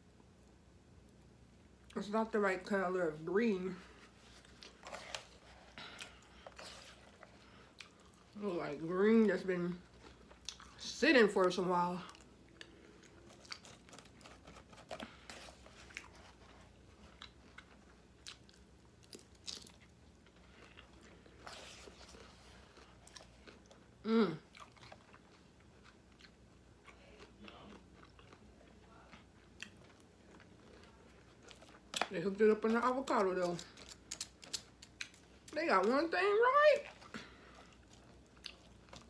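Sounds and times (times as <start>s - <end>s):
chewing and crunching food: 0.0s - 39.0s.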